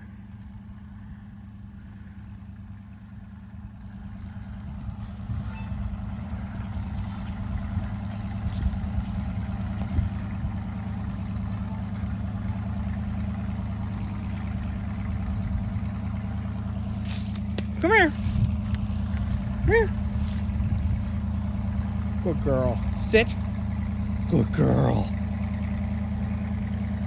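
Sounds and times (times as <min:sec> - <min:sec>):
farm machinery engine running: 0:00.0 - 0:27.0.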